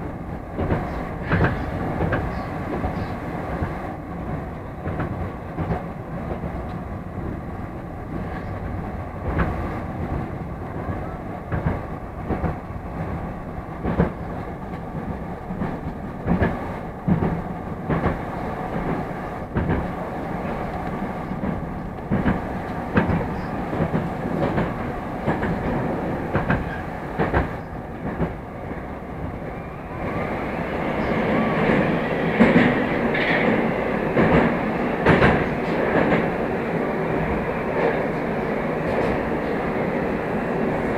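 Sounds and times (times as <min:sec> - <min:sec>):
metro train rolling: 0:00.0 - 0:40.9.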